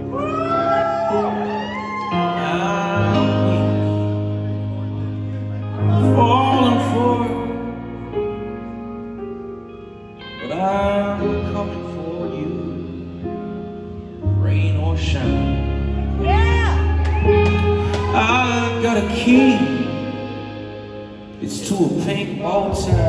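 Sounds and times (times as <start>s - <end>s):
rock band playing slow chords: 0.0s - 23.0s
man singing: 0.4s - 8.2s, 10.4s - 16.9s, 17.6s - 20.6s, 21.4s - 23.0s.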